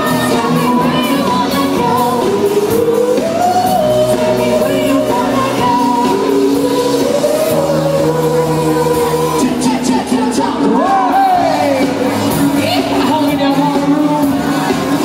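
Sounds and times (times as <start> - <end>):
sung vocal melody: 0.0 - 15.0
sustained bass notes: 0.0 - 15.0.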